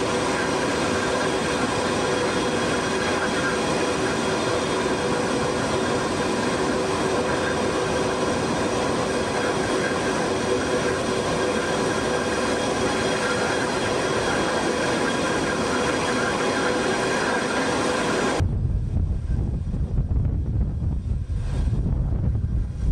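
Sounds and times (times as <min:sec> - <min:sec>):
high whining turbine tones: 0:00.0 - 0:22.9
jet turbine rushing hiss: 0:00.0 - 0:22.9.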